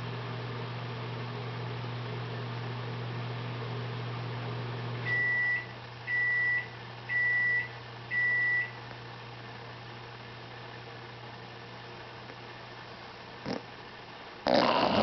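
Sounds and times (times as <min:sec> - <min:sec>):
appliance hum: 0:00.0 - 0:15.0.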